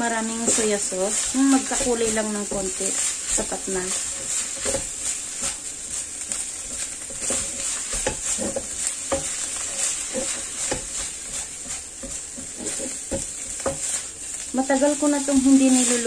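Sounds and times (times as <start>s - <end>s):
meat sizzling in a wok: 0.0s - 16.0s
spatula scraping a pan: 0.1s - 16.0s.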